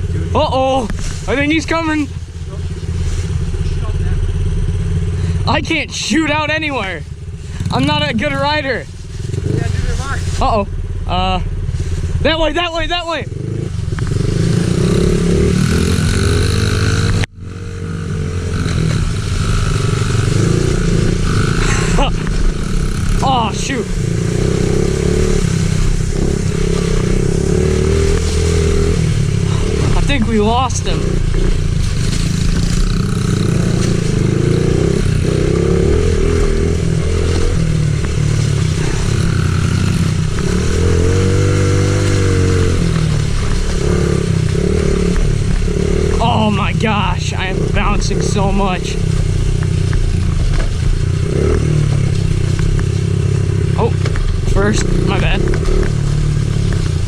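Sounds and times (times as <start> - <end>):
small motorbike engine running hard: 0.0 - 57.0.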